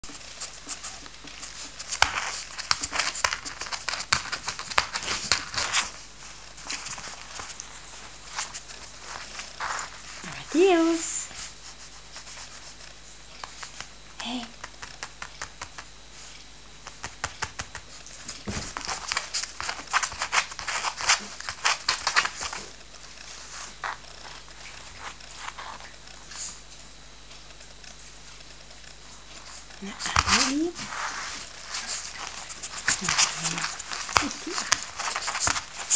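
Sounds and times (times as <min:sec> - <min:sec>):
puppies scratching at furniture: 0:00.0 - 0:14.0, 0:14.7 - 0:35.9.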